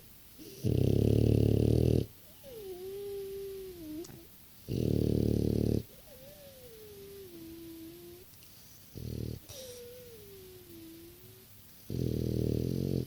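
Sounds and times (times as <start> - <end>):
dog snoring: 0.4 - 8.2, 9.0 - 13.0.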